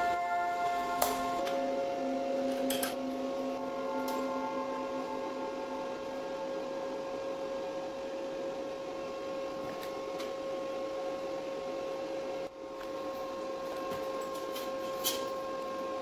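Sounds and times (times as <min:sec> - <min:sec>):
welding machine humming: 0:00.0 - 0:16.0.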